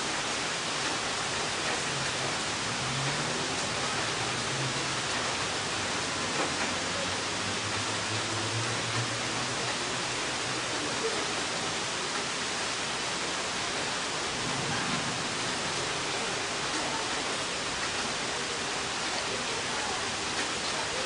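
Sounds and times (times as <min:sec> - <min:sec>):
rain falling steadily: 0:00.0 - 0:21.0.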